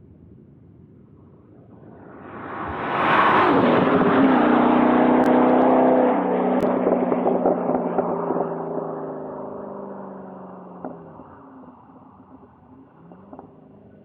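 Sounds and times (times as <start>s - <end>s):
car exhaust drone on a pass: 1.2s - 14.0s.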